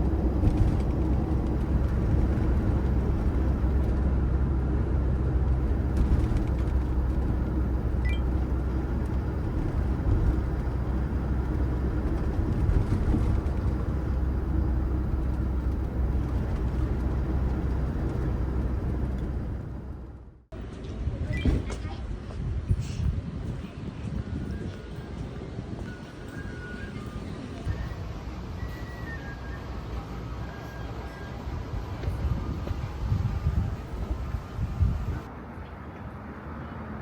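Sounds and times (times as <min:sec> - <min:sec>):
van engine and road noise: 0:00.0 - 0:37.0.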